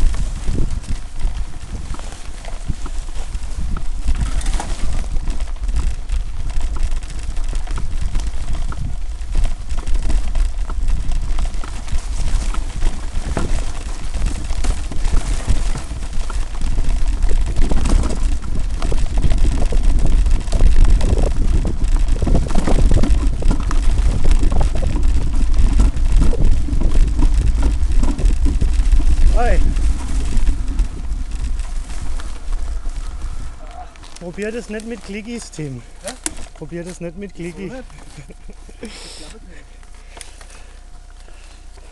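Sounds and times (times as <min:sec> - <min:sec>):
wind rumble on microphone: 0:00.0 - 0:40.0
mountain bike rattling: 0:00.0 - 0:41.9.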